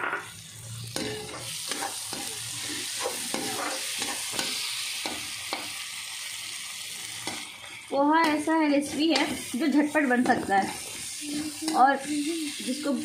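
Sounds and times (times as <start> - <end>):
metal spoon scraping a pan: 0.0 - 5.8, 6.9 - 12.9
frying sizzle: 0.0 - 13.0.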